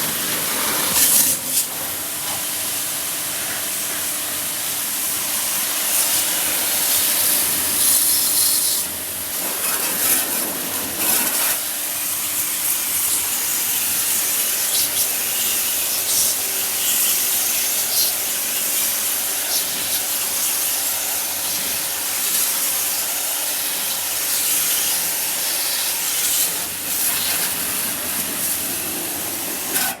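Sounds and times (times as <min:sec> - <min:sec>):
high-pressure water jet hissing: 0:00.0 - 0:30.0.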